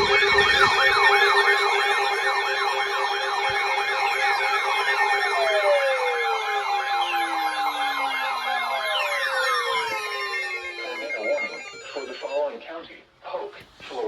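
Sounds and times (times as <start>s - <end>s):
siren tone sliding down in pitch: 0.0s - 12.5s
warbling siren alarm: 0.0s - 12.8s
steady alarm tones: 0.0s - 13.1s.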